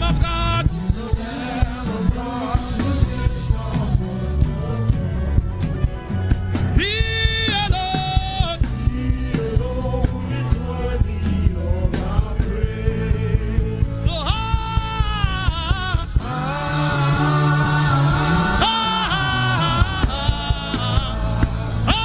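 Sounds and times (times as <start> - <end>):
person singing: 0.0 - 5.3, 6.8 - 22.0
song with beat and bass: 0.0 - 22.0.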